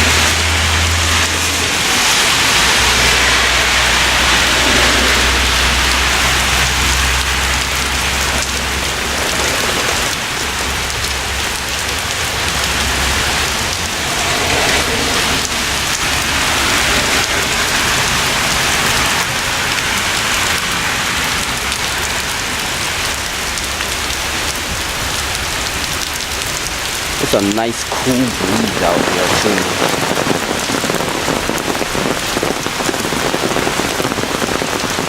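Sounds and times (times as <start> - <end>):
heavy rain hissing: 0.0 - 35.0.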